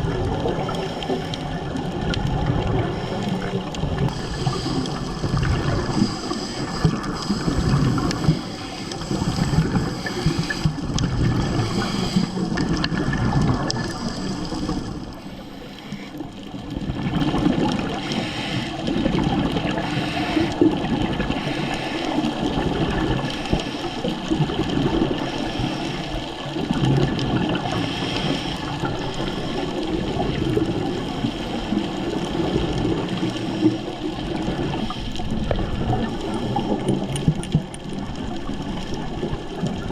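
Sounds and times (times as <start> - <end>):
water bubbling underwater: 0.0 - 39.9.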